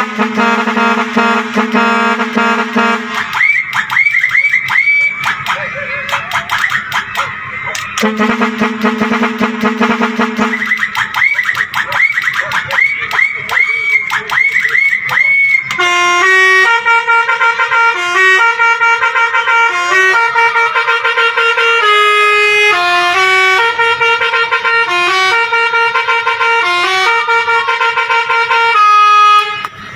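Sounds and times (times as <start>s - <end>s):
truck musical horn playing: 0.0s - 29.9s.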